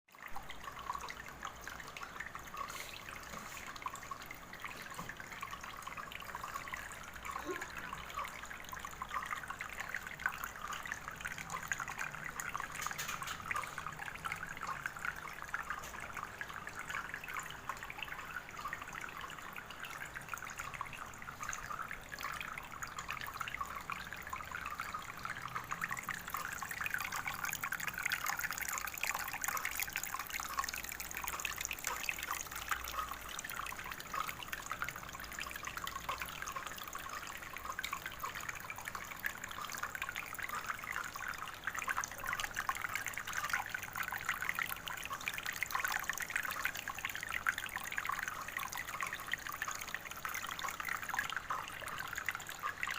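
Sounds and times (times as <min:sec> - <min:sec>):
water trickling: 0:00.1 - 0:52.9.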